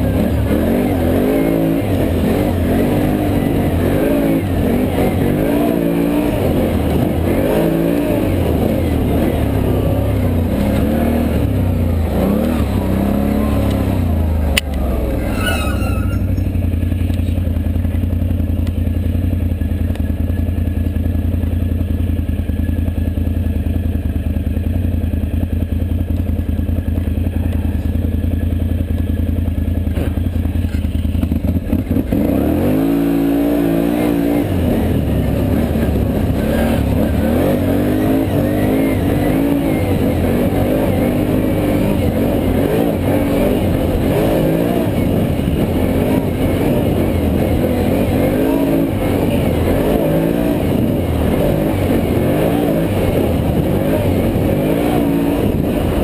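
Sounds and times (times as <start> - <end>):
atv engine revving and idling: 0.0 - 56.0.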